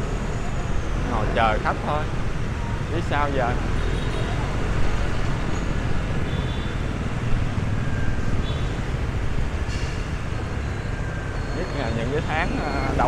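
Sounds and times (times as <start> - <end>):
motorbike and scooter traffic: 0.0 - 13.0.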